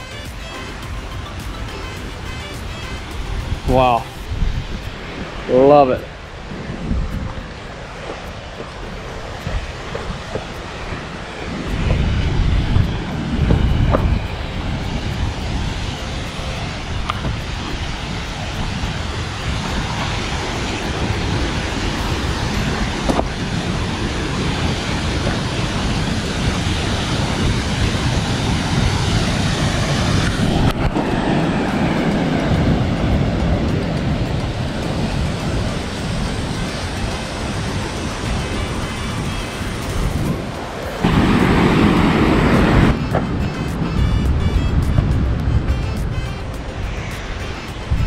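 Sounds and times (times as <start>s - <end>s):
waterfall roar: 0.0s - 48.0s
wind buffeting microphone: 0.0s - 48.0s.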